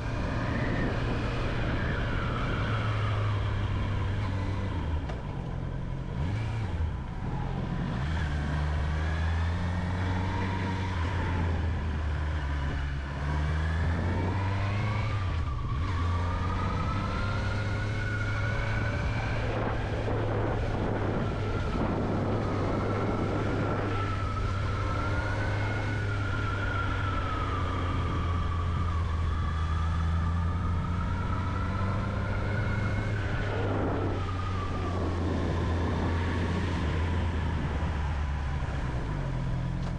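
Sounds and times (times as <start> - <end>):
rushing wind noise: 0.0 - 39.7.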